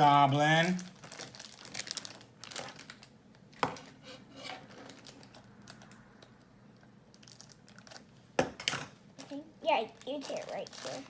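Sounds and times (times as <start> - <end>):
crinkling packaging: 0.0 - 4.0, 4.6 - 8.2, 9.2 - 11.0.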